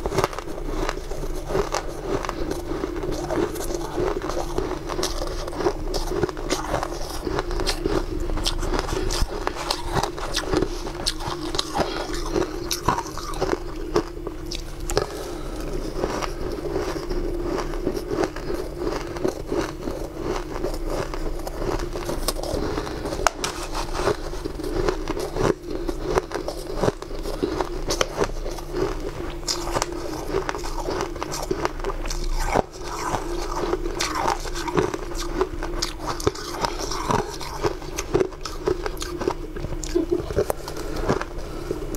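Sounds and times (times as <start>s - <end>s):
crunching and chewing ice: 0.0s - 41.9s
steady low hum: 0.0s - 41.9s.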